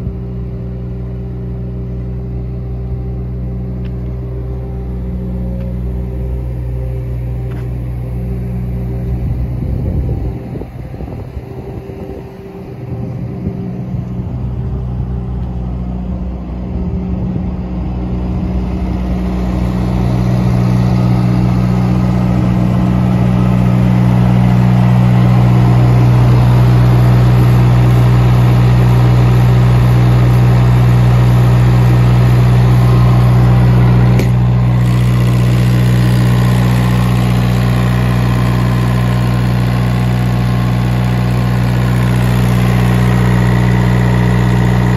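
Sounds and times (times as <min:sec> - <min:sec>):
refrigeration unit diesel engine hum: 0:00.0 - 0:44.9.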